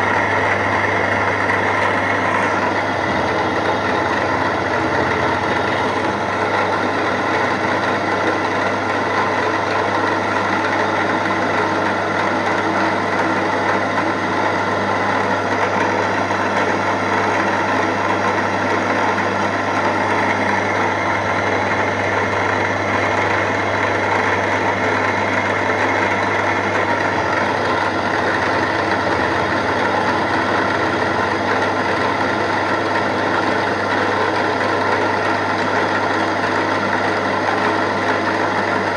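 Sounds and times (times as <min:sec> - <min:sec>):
end mill cutting metal: 0:00.0 - 0:38.9
motor hum: 0:00.0 - 0:38.9.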